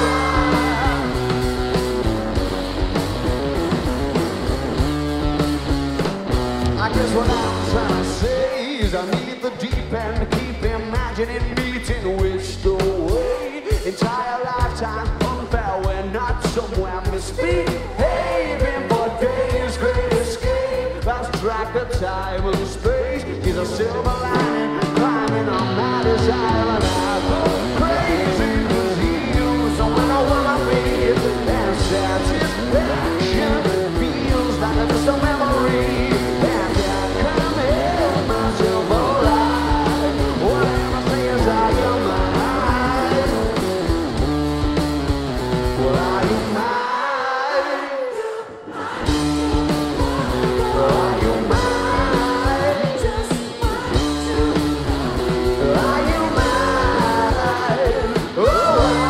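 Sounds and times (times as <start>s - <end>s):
person singing: 0.0s - 1.4s, 6.8s - 43.6s, 45.7s - 59.0s
live rock band playing: 0.0s - 47.0s, 48.8s - 59.0s.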